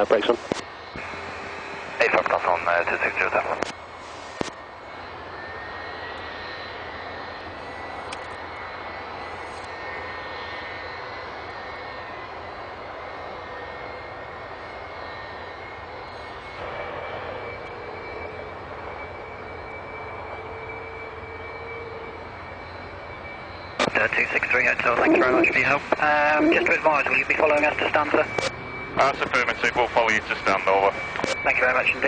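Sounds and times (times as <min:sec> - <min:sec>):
jet engine running: 0:00.0 - 0:32.0.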